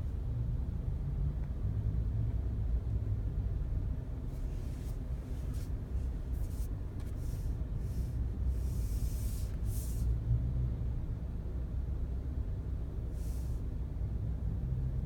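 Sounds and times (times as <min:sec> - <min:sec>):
road rumble inside car: 0:00.0 - 0:15.0.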